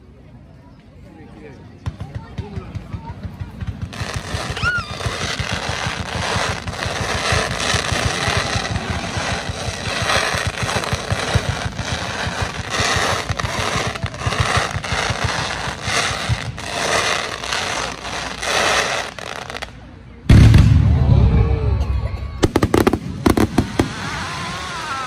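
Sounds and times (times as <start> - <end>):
fireworks crackling and popping: 1.8 - 21.0, 22.4 - 25.0.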